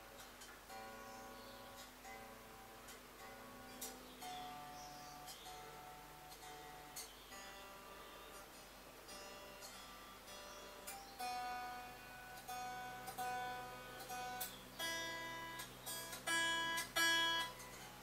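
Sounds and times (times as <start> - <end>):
guitar strings plucked: 0.0 - 18.0.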